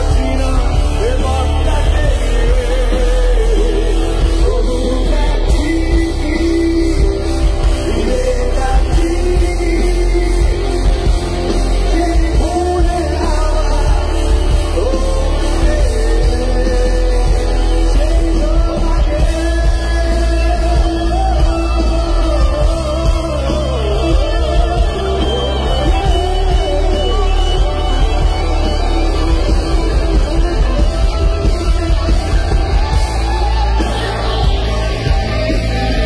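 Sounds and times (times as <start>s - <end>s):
live rock band: 0.0s - 36.0s
person singing: 0.0s - 36.0s.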